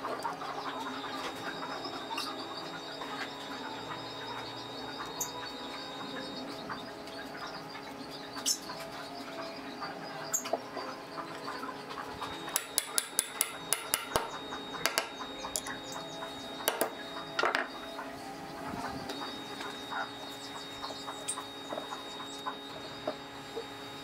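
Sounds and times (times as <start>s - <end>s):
faint background tones: 0.0s - 24.0s.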